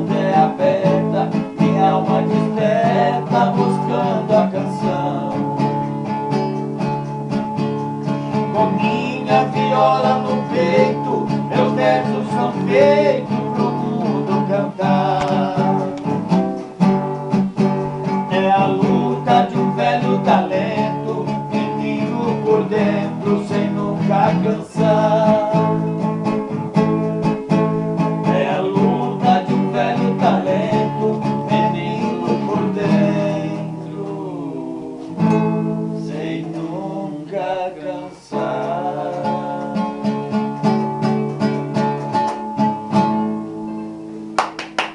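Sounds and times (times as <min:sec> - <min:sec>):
plucked and strummed guitar music: 0:00.0 - 0:44.9.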